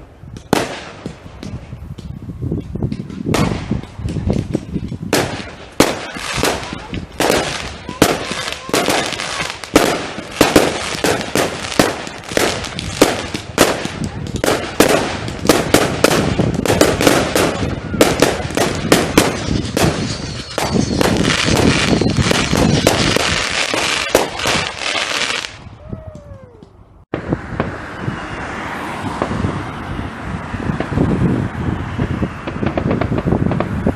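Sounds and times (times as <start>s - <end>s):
fireworks bangs and crackles: 0.0s - 25.6s, 27.1s - 33.9s.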